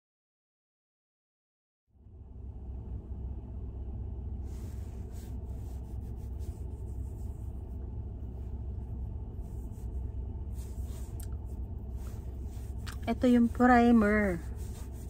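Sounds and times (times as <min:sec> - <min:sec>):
road and engine rumble in car: 0:01.9 - 0:15.0.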